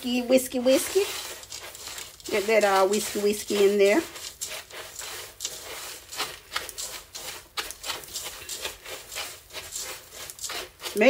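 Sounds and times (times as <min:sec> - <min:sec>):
whisk scraping in metal bowl: 0:00.0 - 0:11.0.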